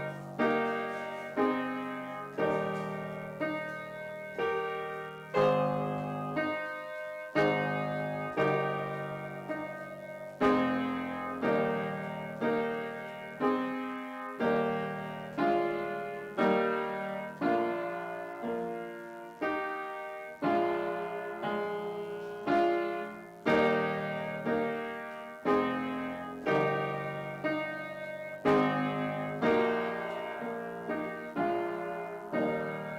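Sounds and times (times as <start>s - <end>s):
slow piano chords: 0.0s - 32.9s.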